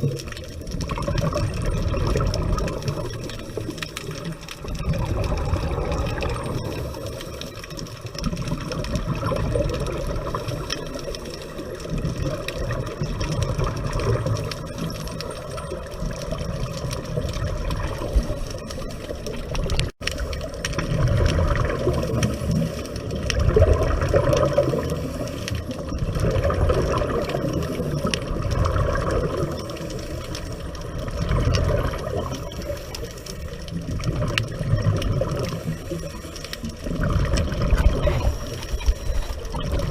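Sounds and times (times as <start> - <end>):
bubbling rushes: 0.0 - 39.9
muffled underwater noise: 0.0 - 39.9.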